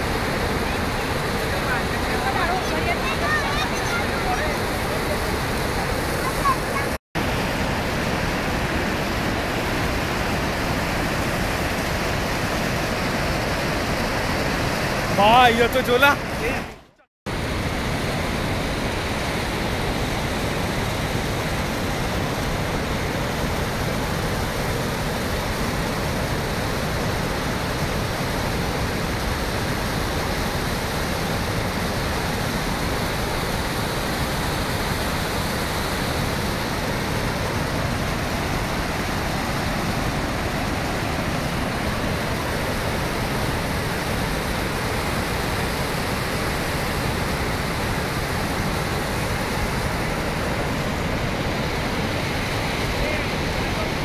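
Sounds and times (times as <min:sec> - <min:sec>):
water rushing over spillway: 0:00.0 - 0:54.0.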